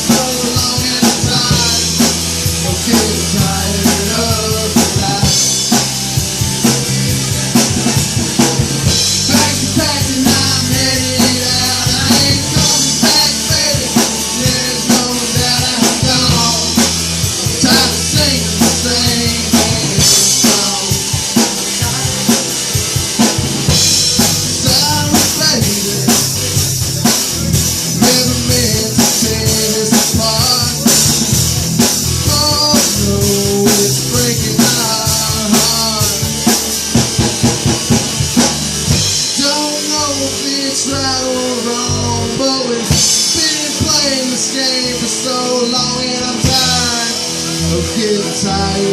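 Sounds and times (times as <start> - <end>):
drum kit beat: 0.0 - 48.9
live rock band playing: 0.0 - 48.9.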